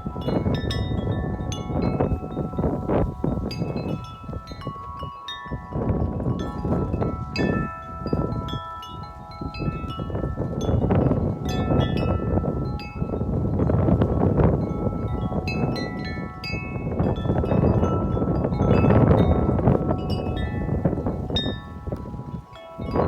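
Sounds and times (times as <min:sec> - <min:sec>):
wind chime ringing: 0:00.0 - 0:23.0
wind rumbling on microphone: 0:00.0 - 0:23.0.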